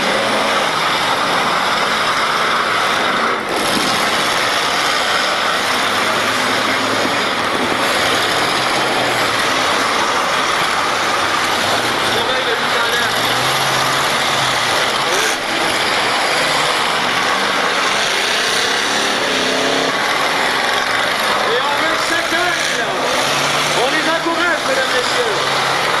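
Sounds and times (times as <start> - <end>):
car engines running together: 0.0 - 26.0.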